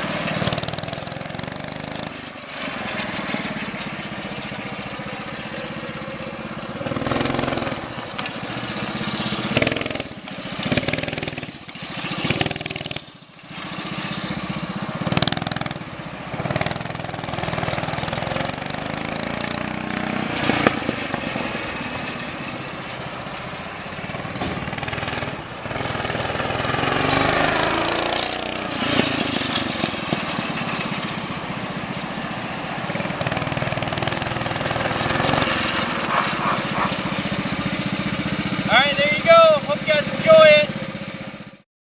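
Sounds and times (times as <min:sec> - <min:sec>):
mini bike engine revving: 0:00.0 - 0:22.6, 0:23.9 - 0:31.9, 0:32.8 - 0:41.6.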